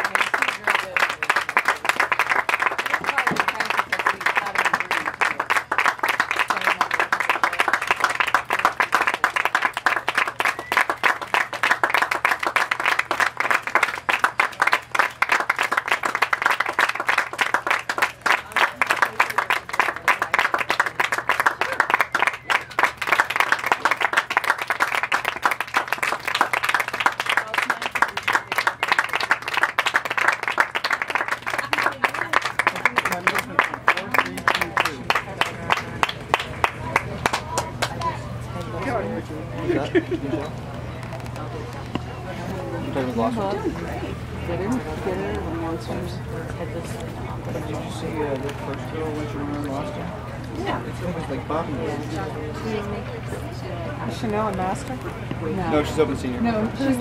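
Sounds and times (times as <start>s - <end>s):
crowd applause: 0.0s - 57.0s.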